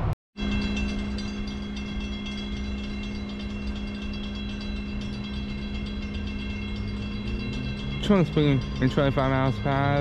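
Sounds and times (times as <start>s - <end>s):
diesel locomotive droning: 0.0s - 10.0s.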